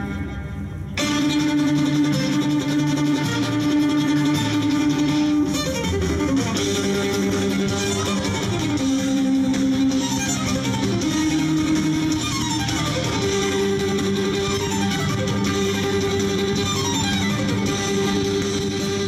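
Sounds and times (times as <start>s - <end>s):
music with sliding melody notes: 0.0s - 19.0s.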